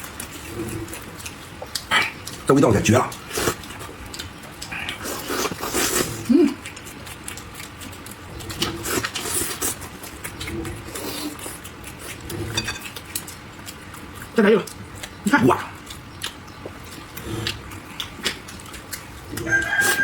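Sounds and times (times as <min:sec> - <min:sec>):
chewing and lip smacking: 0:00.0 - 0:20.0.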